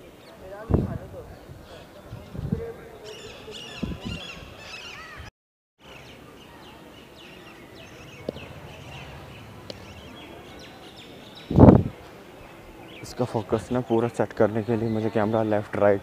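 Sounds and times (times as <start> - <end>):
small birds chirping: 1.6 - 15.9.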